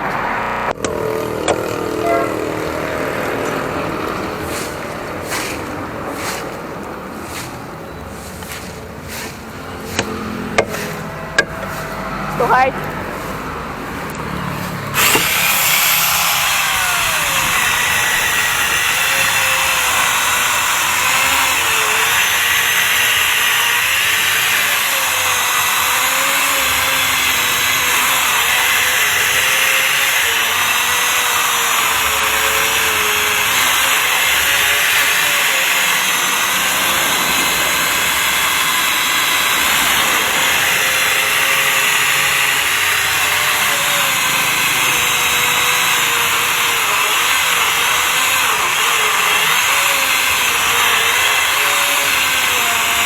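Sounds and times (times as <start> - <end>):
chainsaw motor cutting wood: 0.0 - 53.0.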